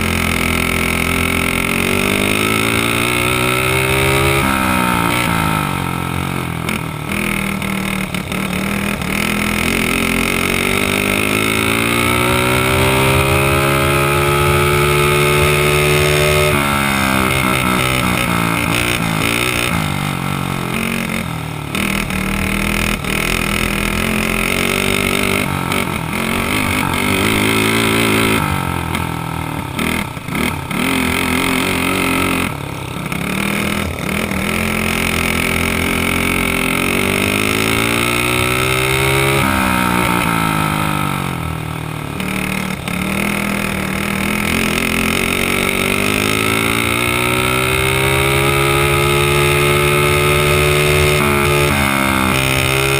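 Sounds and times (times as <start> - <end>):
kart engine revving: 0.0 - 52.9.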